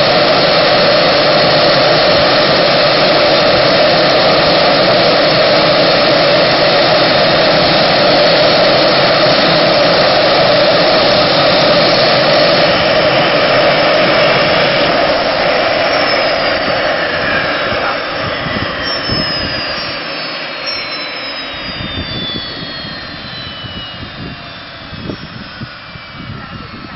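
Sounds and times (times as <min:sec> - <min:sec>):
gas turbine roaring: 0:00.0 - 0:26.9
high whines falling in pitch: 0:00.0 - 0:26.9.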